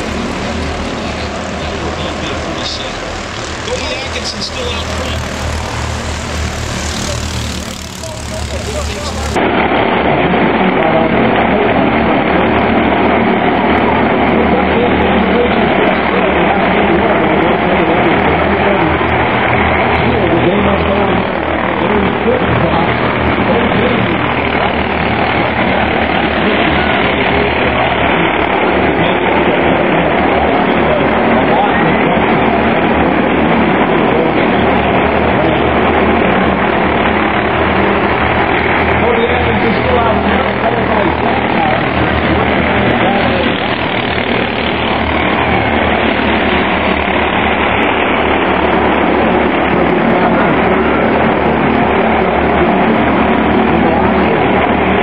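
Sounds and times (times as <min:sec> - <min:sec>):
race car engines: 0:00.0 - 0:55.0.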